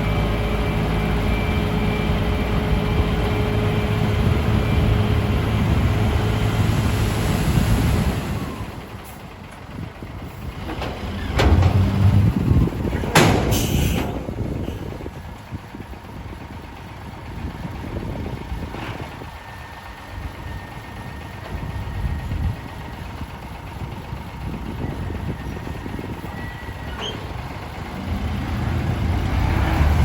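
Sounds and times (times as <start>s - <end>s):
diesel truck engine rumbling: 0.0s - 30.0s.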